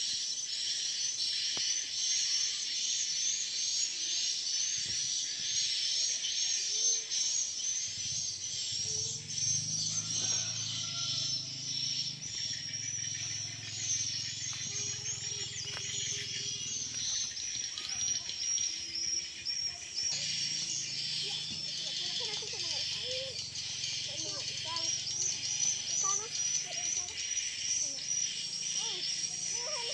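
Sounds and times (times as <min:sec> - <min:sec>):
birds chirping: 0:00.0 - 0:29.9
insects chirping: 0:00.0 - 0:29.9.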